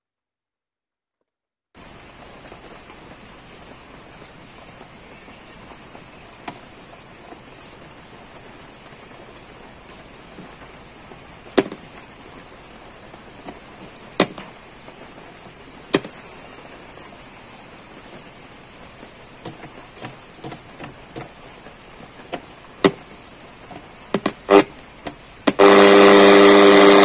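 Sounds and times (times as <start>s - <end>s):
steady hiss: 1.8s - 27.0s.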